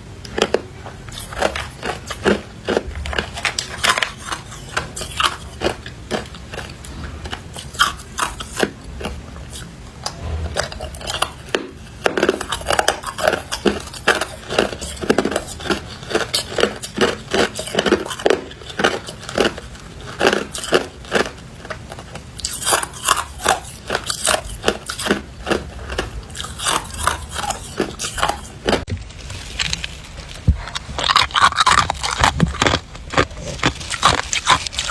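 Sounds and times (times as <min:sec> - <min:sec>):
ice being chewed: 0:00.2 - 0:34.9.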